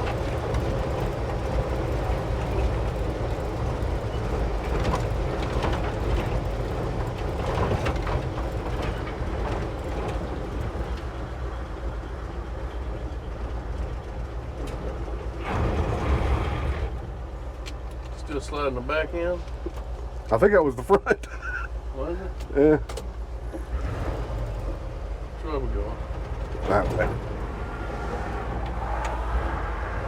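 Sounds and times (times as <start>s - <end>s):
knocks and rattles over bumps: 0.0s - 20.5s, 22.3s - 30.0s
truck engine and road drone: 0.0s - 30.0s.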